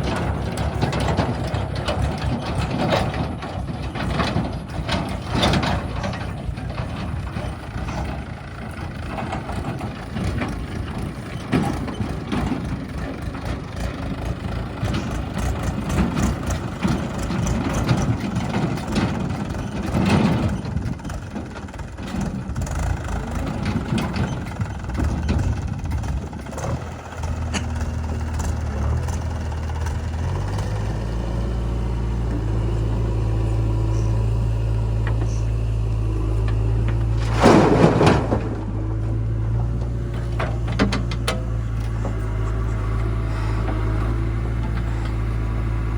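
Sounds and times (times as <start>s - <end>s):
knocks and clanks: 0.0s - 45.4s
heavy machinery engine running: 0.0s - 45.9s.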